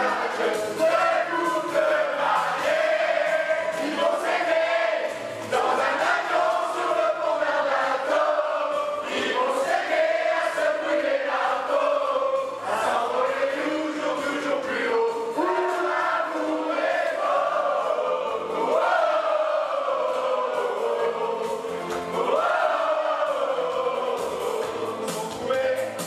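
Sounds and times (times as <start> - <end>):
amplified singing voice: 0.0 - 26.0
group singing together: 0.0 - 26.0
musical accompaniment: 0.0 - 26.0.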